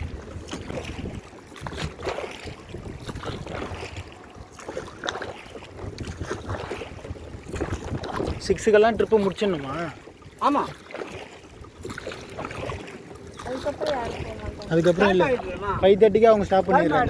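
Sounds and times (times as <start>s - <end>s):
oar strokes splashing: 0.0s - 17.0s
water splashing and lapping: 0.0s - 17.0s
wind rumbling on microphone: 0.0s - 17.0s.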